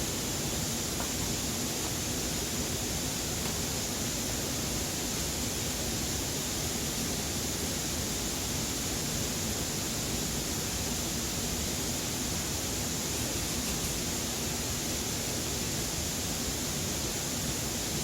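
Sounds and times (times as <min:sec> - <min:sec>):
steady hissing rush: 0:00.0 - 0:18.0.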